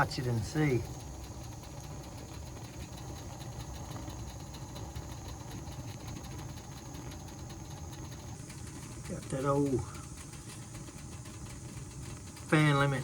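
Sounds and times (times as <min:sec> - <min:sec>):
gas burners low rumble: 0:00.0 - 0:13.0.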